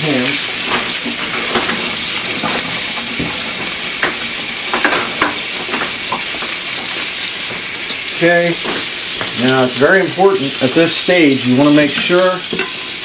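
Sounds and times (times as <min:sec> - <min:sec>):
grease popping: 0:00.0 - 0:10.7
chicken sizzling in a pan: 0:00.0 - 0:13.0.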